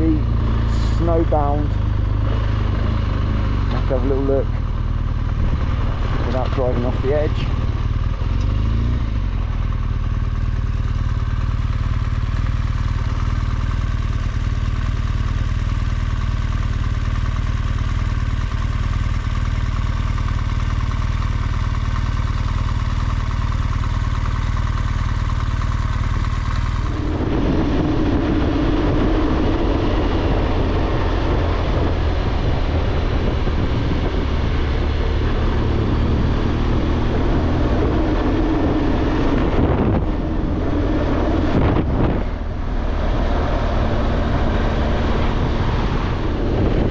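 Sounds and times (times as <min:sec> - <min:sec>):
motorcycle engine running: 0:00.0 - 0:46.9
road noise: 0:00.0 - 0:46.9
wind: 0:00.0 - 0:46.9.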